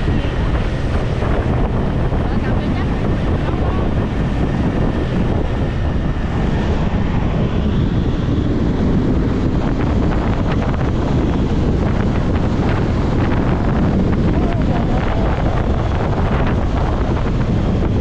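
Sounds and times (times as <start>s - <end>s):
motorcycle engine and road noise: 0.0s - 18.0s
wind buffeting microphone: 0.0s - 18.0s.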